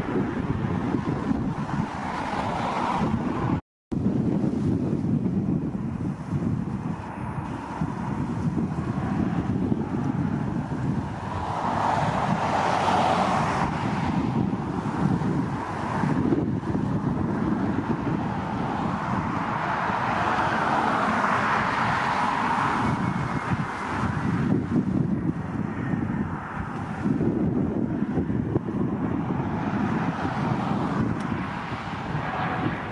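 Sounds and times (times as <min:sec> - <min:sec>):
jet aircraft rushing: 0:00.0 - 0:03.6, 0:06.9 - 0:32.9
wind buffeting microphone: 0:00.0 - 0:32.9.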